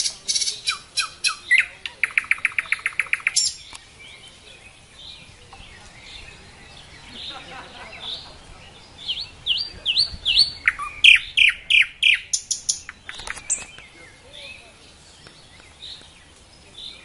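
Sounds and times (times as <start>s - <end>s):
faint bird calls: 0.0s - 17.0s
nightingale singing: 0.0s - 17.0s.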